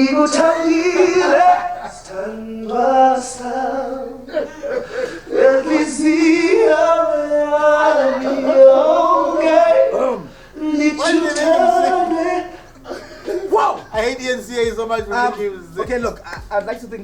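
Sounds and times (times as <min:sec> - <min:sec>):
man singing with vibrato: 0:00.0 - 0:16.6.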